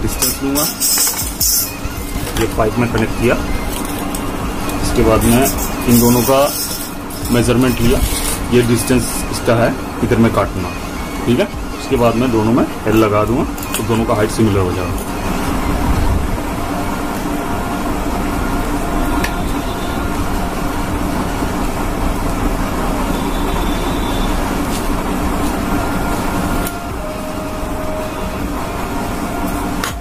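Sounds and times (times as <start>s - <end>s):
mechanical rumble with hum: 0.0s - 30.0s.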